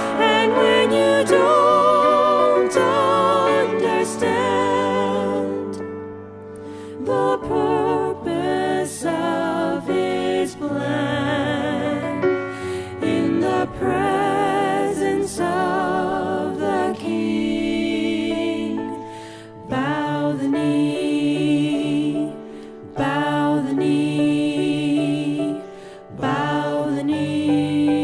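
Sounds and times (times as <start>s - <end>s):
musical accompaniment: 0.0s - 28.0s
vocal group singing a hymn: 0.0s - 28.0s.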